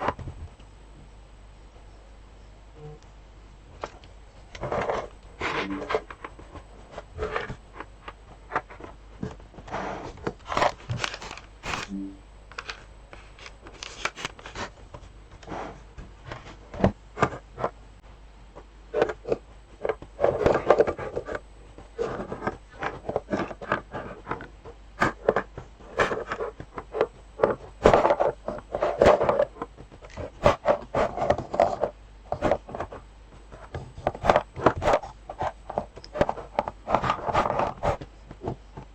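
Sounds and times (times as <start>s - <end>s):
rustling and scraping: 3.8s - 12.0s, 12.6s - 17.8s, 18.6s - 38.9s.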